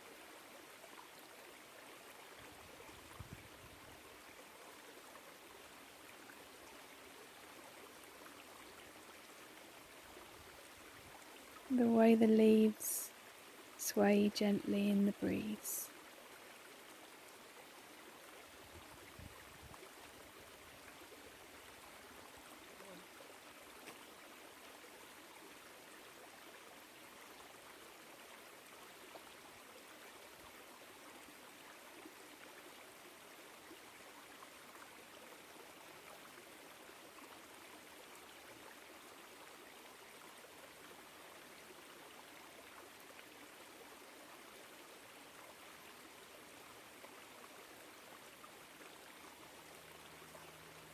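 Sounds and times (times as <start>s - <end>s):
stream running over rocks: 0.0s - 50.9s.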